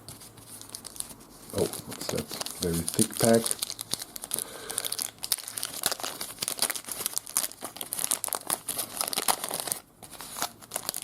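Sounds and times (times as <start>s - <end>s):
card pack wrapper crinkling: 0.4s - 11.0s.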